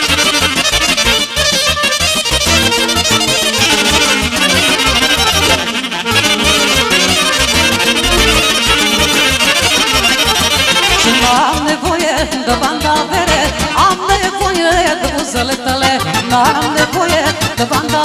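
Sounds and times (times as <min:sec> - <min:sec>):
folk dance music: 0:00.0 - 0:18.0.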